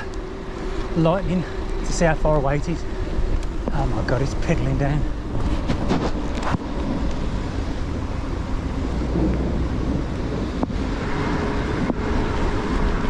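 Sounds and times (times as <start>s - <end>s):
wind noise on microphone: 1.6s - 13.0s
thunder crackling and rumbling: 1.7s - 13.0s.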